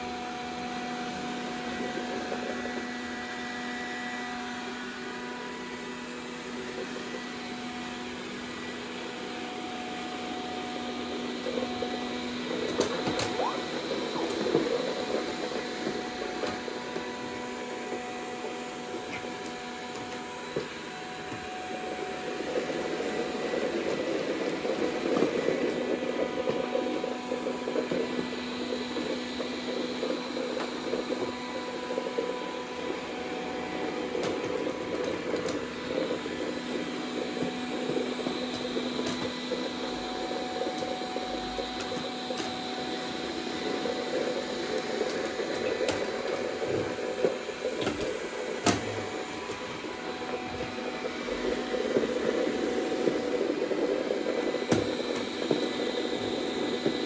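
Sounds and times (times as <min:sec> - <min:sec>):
robot vacuum motor hum: 0:00.0 - 0:57.0.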